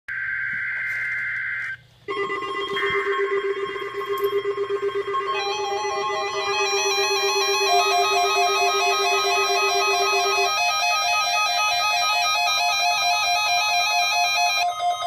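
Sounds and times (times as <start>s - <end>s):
two-tone electronic warble: 0.1s - 15.0s
keyboard music with drone: 2.0s - 15.0s.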